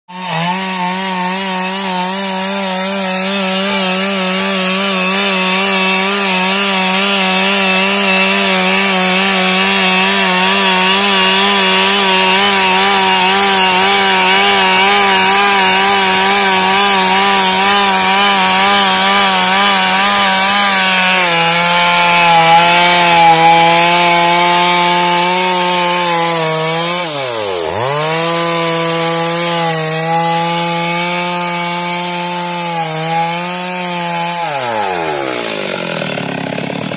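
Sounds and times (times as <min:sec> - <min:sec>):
chainsaw cutting a log: 0:00.1 - 0:36.9.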